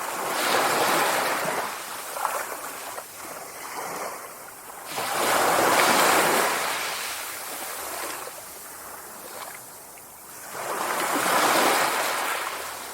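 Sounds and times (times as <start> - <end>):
sea waves washing in: 0.0 - 12.9.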